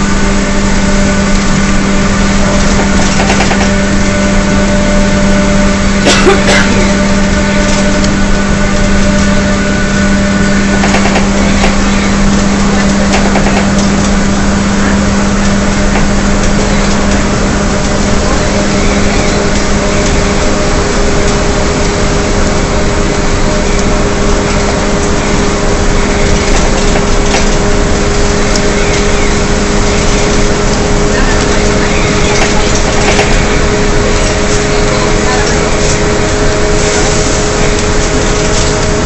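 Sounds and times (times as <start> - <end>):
bus engine howl: 0.0 - 39.0
drivetrain drone: 0.0 - 39.0
road noise: 0.0 - 39.0.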